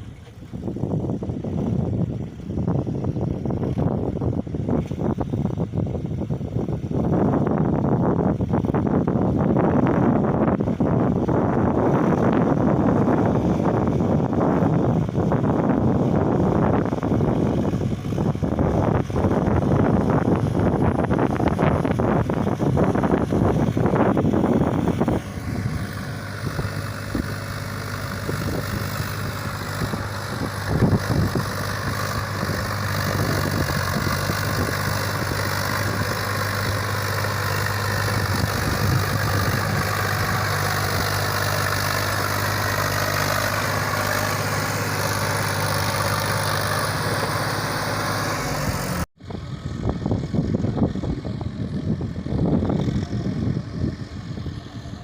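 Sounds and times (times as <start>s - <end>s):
rough rumbling noise: 0.0s - 55.0s
tractor diesel engine running: 0.0s - 55.0s.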